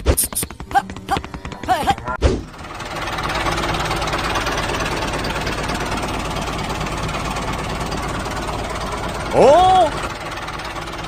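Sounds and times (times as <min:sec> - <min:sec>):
small engine knocking steadily: 0:00.4 - 0:11.0.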